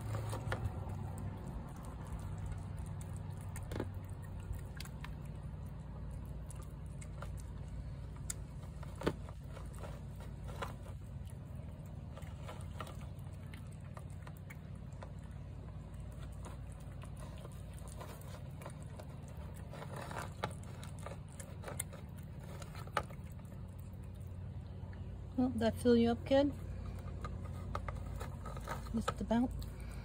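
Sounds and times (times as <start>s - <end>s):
cat chewing wet food: 0.0s - 25.4s, 26.6s - 30.0s
low hum: 0.0s - 30.0s.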